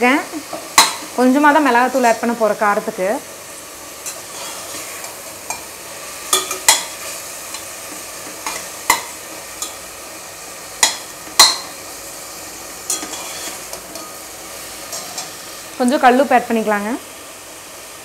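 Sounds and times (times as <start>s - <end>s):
masala sizzling in a pot: 0.0s - 18.0s.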